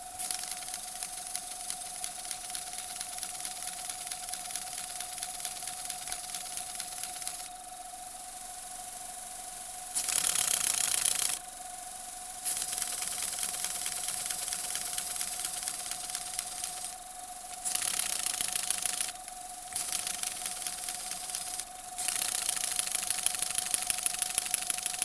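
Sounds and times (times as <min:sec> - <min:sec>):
pulsing hiss of exhausting air: 0:00.0 - 0:25.0.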